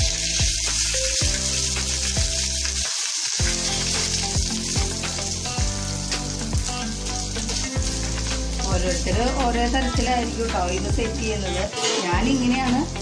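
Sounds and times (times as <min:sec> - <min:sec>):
background music with beat: 0:00.0 - 0:13.0
fat sizzling in a pot: 0:00.0 - 0:13.0.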